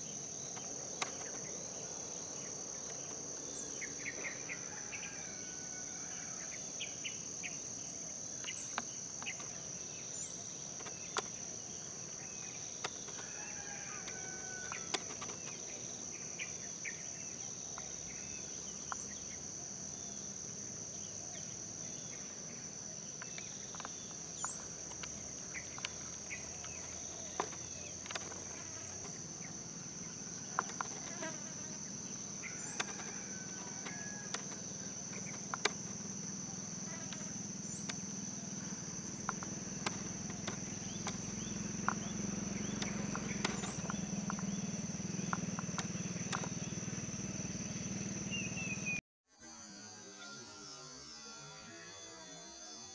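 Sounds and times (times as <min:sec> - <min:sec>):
insect trilling: 0:00.0 - 0:52.9.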